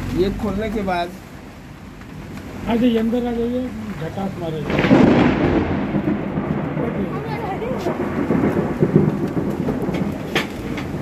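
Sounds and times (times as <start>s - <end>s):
loud steady rumbling: 0.0s - 11.0s.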